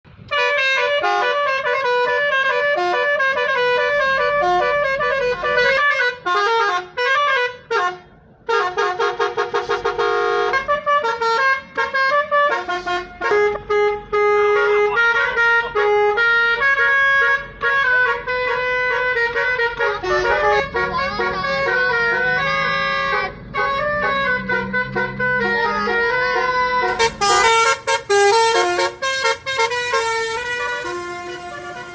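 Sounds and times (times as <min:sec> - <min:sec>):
multi-tone car horn melody: 0:00.1 - 0:31.9.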